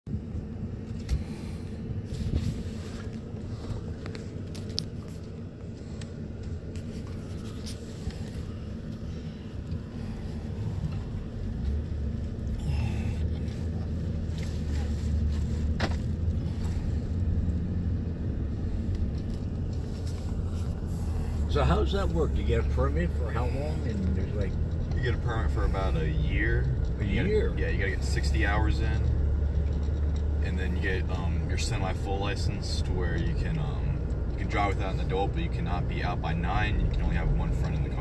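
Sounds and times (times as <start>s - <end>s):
road and engine rumble: 0.0s - 38.0s.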